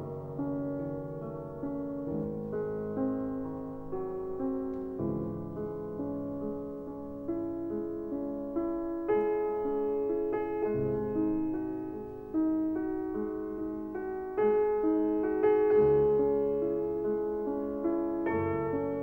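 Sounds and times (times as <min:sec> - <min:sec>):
gentle solo piano: 0:00.0 - 0:19.0.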